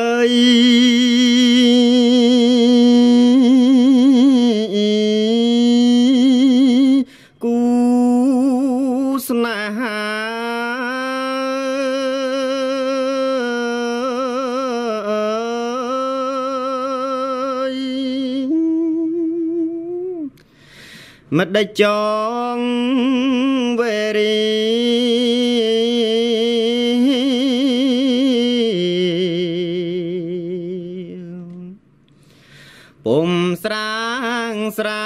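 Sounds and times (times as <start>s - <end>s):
man chanting: 0.0s - 20.3s, 21.3s - 31.8s, 33.0s - 35.0s.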